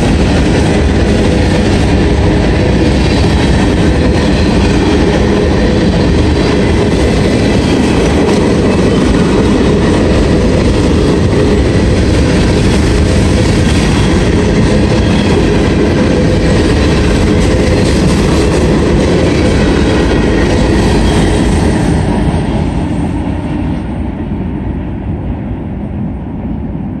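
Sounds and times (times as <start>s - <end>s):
freight train wheels rumbling on rail: 0.0s - 27.0s.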